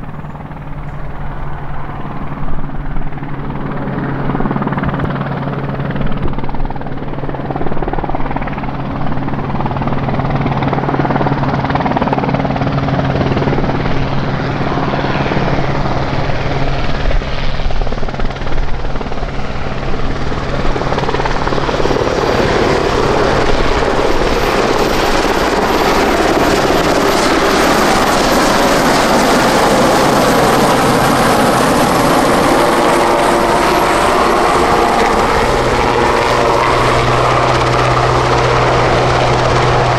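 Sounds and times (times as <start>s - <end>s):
helicopter rotor and engines: 0.0s - 39.9s
high turbine whine: 0.0s - 39.9s.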